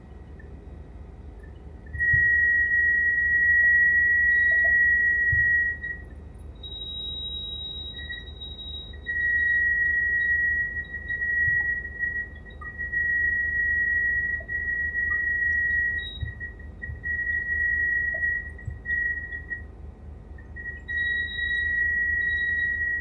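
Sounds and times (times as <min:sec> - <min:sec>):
steady high-pitched tone: 0:01.9 - 0:23.0.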